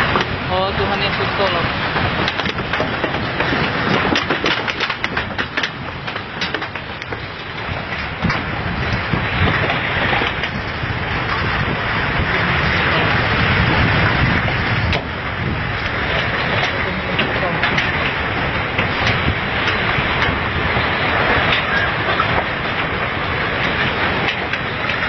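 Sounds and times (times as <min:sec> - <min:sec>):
earthquake rumble: 0:00.0 - 0:25.0.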